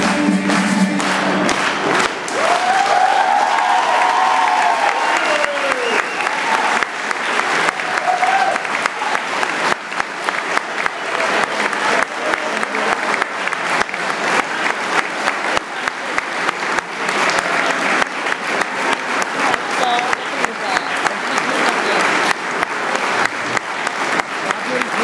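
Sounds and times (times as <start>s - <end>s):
audience applauding: 0.0s - 25.0s
rhythmic clapping in unison: 0.0s - 25.0s.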